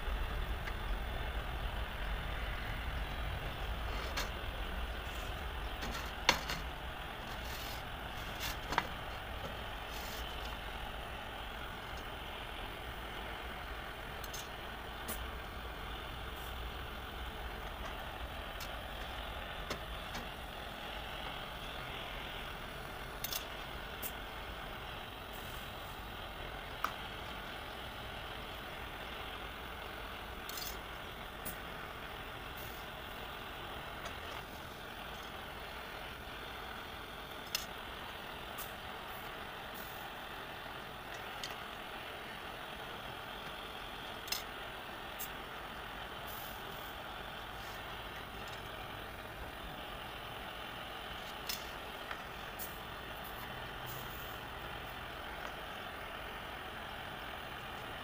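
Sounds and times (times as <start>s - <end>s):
low machinery rumble and hiss: 0.0s - 58.0s.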